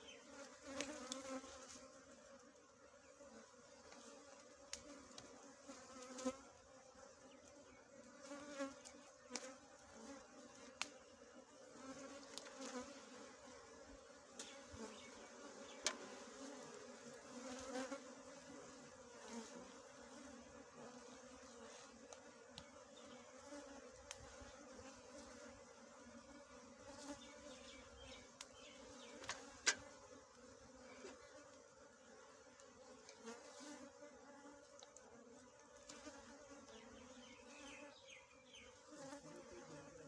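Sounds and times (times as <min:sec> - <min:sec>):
bees buzzing: 0:00.0 - 0:40.0.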